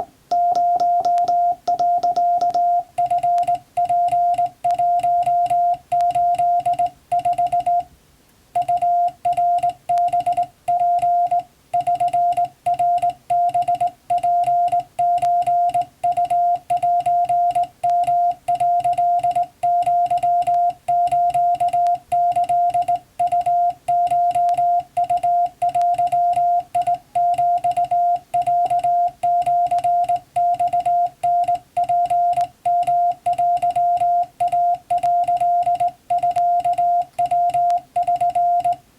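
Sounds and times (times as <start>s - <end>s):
morse code tone: 0.0s - 7.9s, 8.6s - 38.8s.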